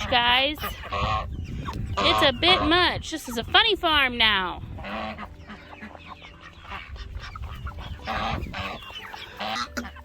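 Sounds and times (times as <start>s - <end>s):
young turkeys calling: 0.0s - 10.0s.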